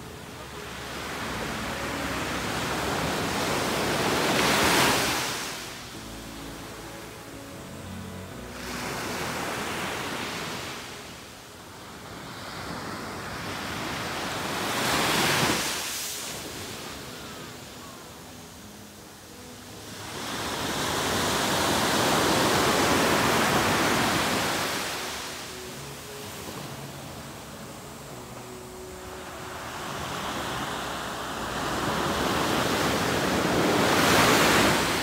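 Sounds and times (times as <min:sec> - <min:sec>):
waves crashing on a beach: 0:00.0 - 0:35.0.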